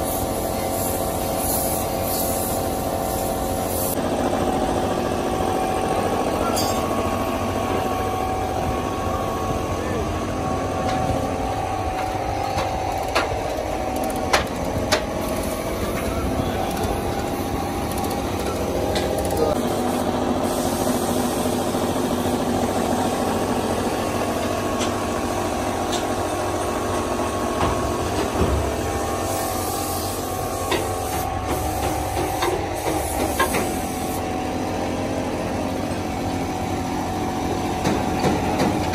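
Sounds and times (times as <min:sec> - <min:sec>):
machine drone: 0:00.0 - 0:38.9.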